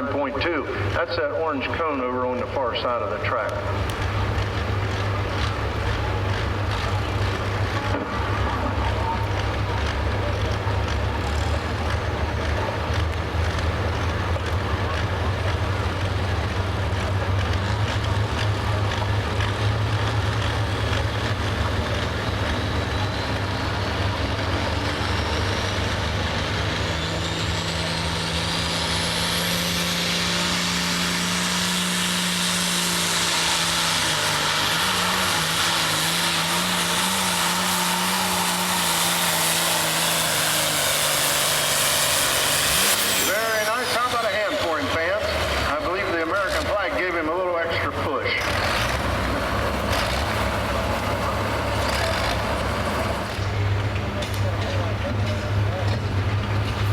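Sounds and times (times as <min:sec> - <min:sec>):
tractor engine running hard: 0:00.0 - 0:56.9.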